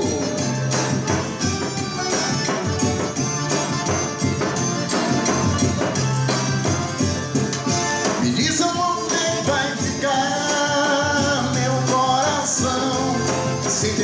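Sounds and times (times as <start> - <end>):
band playing dance music: 0.0 - 14.0.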